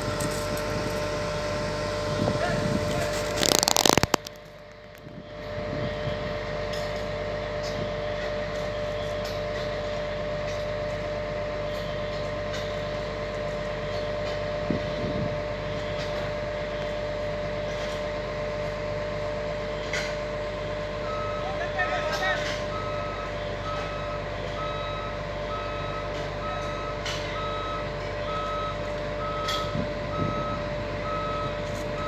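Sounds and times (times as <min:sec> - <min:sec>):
crane engine humming with whine: 0:00.0 - 0:32.0.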